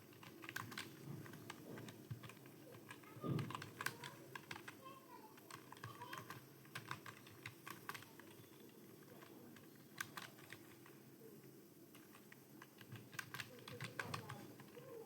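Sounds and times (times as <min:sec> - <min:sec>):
computer keyboard typing: 0:00.0 - 0:11.0, 0:11.9 - 0:15.0.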